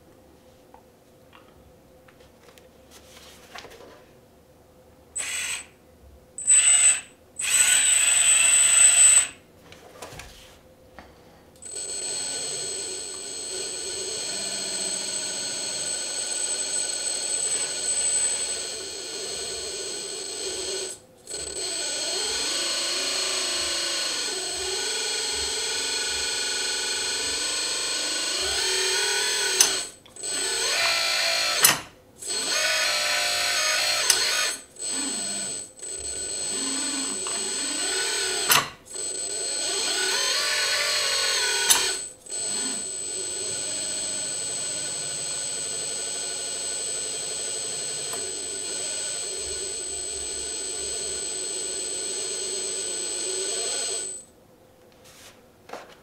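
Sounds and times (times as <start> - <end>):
hydraulic pump whining: 5.2 - 5.7, 6.4 - 9.4, 11.6 - 54.3.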